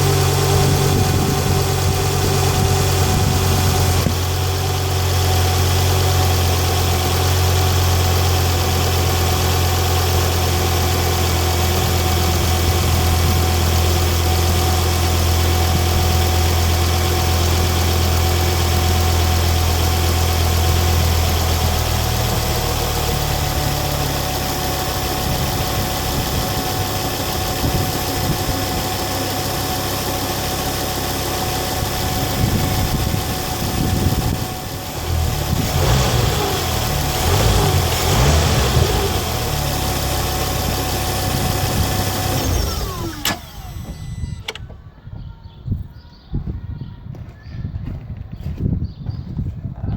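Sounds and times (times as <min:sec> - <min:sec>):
car engine idling: 0:00.0 - 0:44.8.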